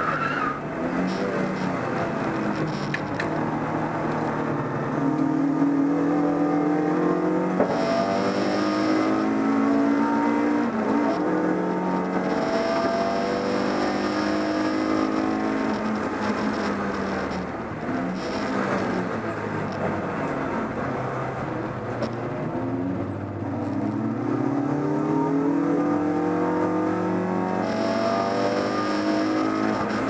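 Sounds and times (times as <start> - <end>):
race car engine revving hard: 0.7 - 19.6, 23.7 - 30.0.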